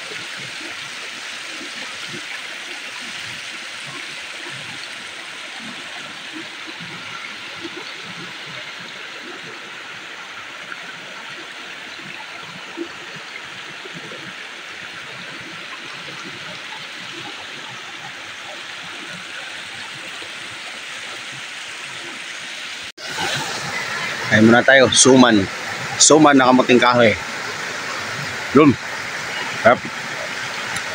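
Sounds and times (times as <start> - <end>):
river rushing over stones: 0.0 - 30.9.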